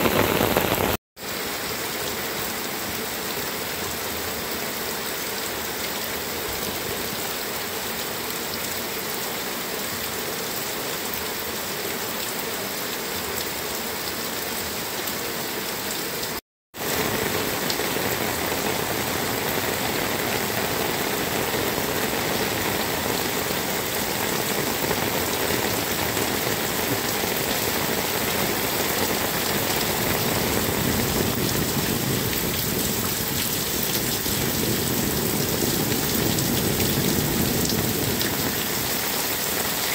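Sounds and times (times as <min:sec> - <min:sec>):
heavy rain on roof tiles: 0:00.0 - 0:39.9
rain splashing on ground: 0:00.0 - 0:39.9.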